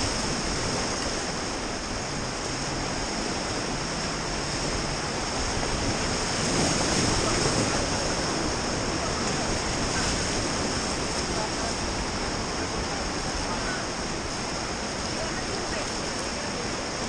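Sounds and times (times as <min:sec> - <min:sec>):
river rapids rushing: 0:00.0 - 0:17.0.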